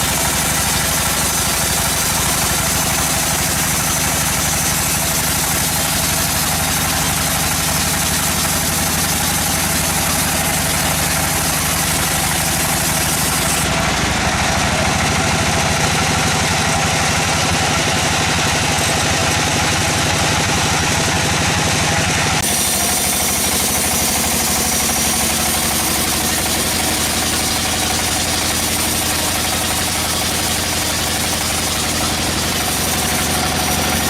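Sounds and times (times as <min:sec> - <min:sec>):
sawmill machinery engine running: 0:00.0 - 0:34.0.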